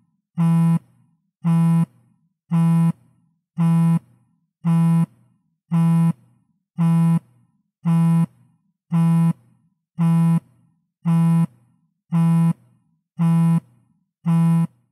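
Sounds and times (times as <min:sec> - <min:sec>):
phone vibrating on a table: 0:00.4 - 0:14.9.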